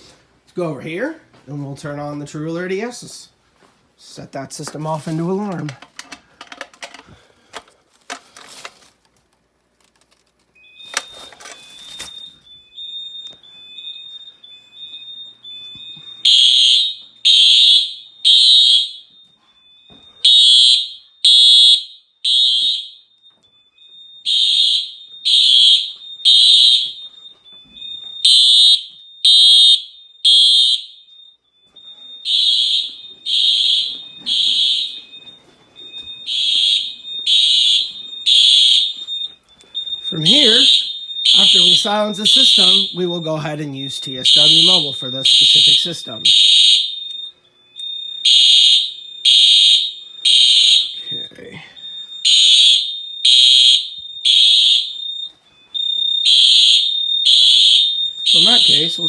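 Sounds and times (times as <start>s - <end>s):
fire alarm horn blasts: 10.6s - 59.0s.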